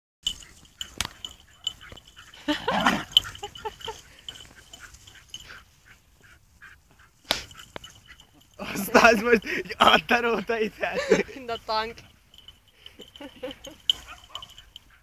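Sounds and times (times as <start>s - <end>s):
dogs vocalizing: 0.2s - 9.6s, 12.0s - 15.0s.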